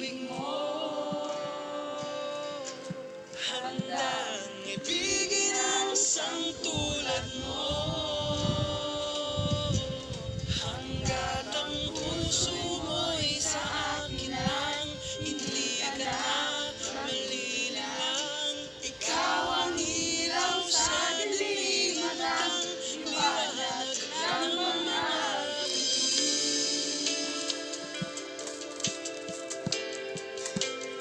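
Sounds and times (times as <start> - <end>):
voices singing a melody: 0.0 - 29.9
music accompaniment: 0.0 - 31.0.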